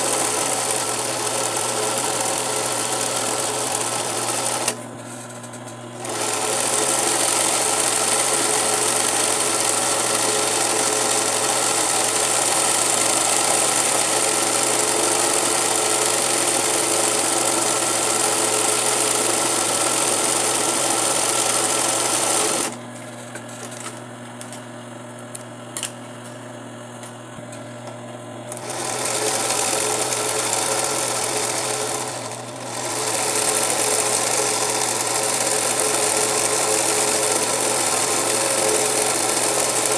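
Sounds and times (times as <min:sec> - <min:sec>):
sewing machine running: 0:00.0 - 0:22.8, 0:28.5 - 0:39.9.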